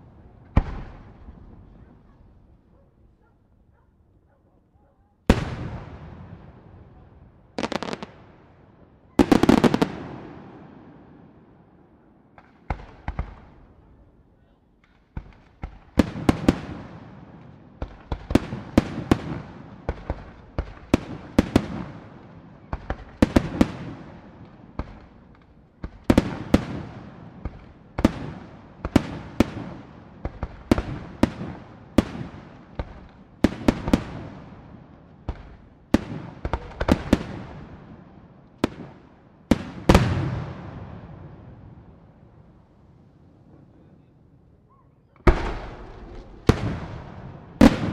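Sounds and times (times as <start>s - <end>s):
fireworks exploding: 0.0s - 2.5s, 5.3s - 11.6s, 12.3s - 13.9s, 14.8s - 42.7s, 45.2s - 47.9s.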